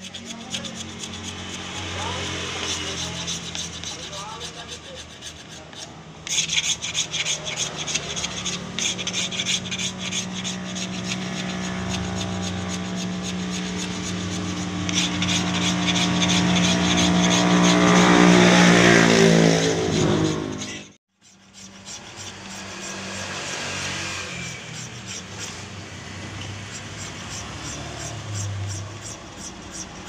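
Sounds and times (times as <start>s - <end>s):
blade scraping wood: 0.0s - 30.0s
vehicle engine drone: 0.2s - 4.0s, 7.8s - 21.0s, 22.3s - 30.0s.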